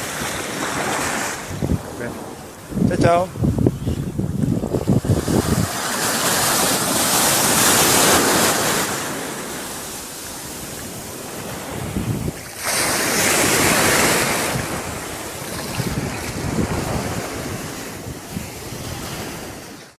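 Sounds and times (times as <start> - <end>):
small sea waves breaking on shore: 0.0 - 20.0.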